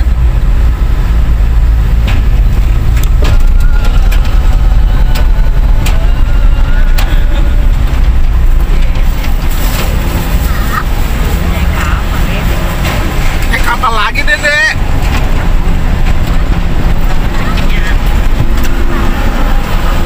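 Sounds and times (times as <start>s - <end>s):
car rumbling on steel ramp: 0.0s - 20.0s.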